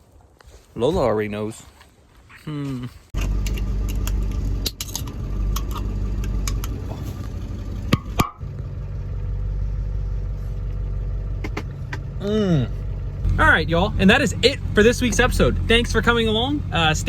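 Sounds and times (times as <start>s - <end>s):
pickup truck engine running: 3.2s - 17.0s.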